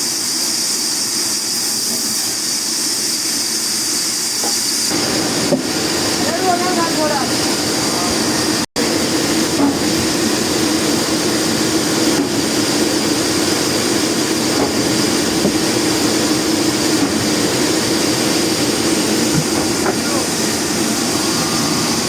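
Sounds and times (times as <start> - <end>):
sawmill blade running: 4.2 - 22.0.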